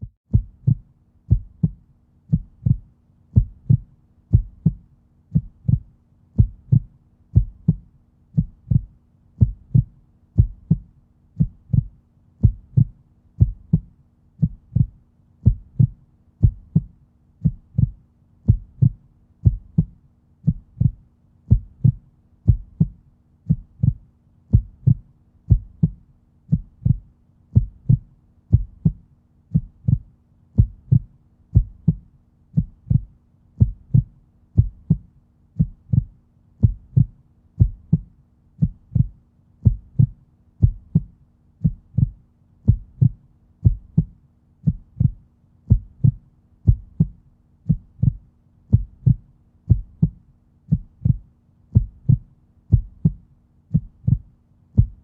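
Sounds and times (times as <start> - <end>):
faint steady hum: 0.0 - 55.0
heartbeat double thump: 0.0 - 55.0.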